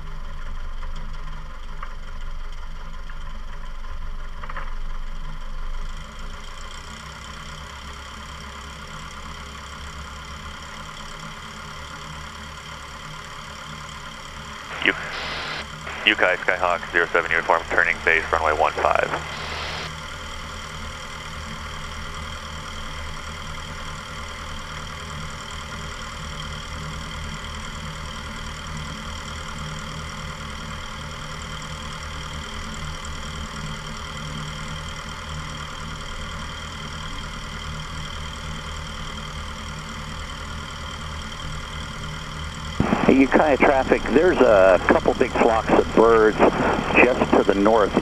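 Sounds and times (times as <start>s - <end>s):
propeller plane engine droning: 0.1s - 31.0s, 33.7s - 48.0s.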